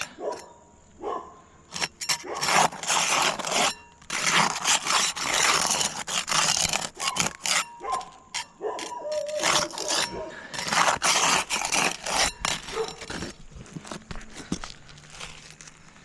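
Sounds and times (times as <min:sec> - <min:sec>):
metal tool scraping shingles: 0:00.0 - 0:00.5, 0:01.7 - 0:16.0.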